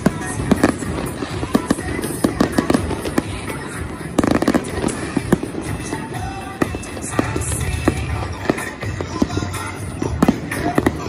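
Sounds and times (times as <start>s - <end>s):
fireworks bangs: 0.0s - 11.0s
music: 0.0s - 11.0s.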